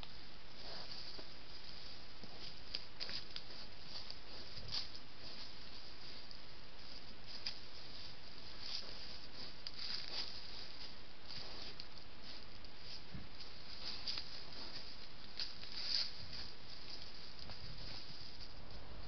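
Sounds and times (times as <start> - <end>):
microphone hiss: 0.0 - 19.0
animal stepping through dry leaves: 0.7 - 18.6.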